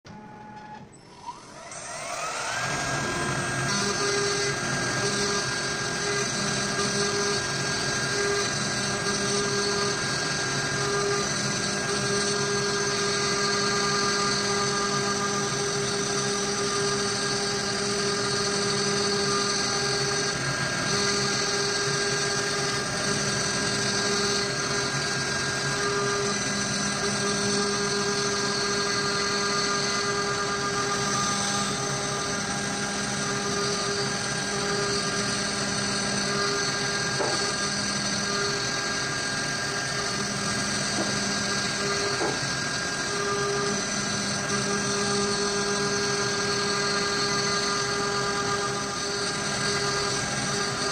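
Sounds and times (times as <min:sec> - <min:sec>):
router spindle motor whine: 0:00.1 - 0:50.9.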